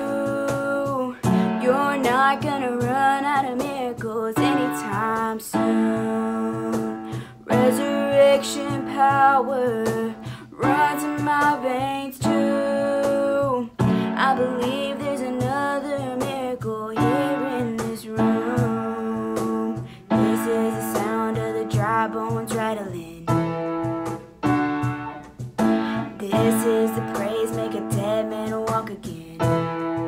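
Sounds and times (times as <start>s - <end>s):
woman singing: 0.0s - 23.5s, 25.6s - 30.0s
instrumental accompaniment: 0.0s - 30.0s.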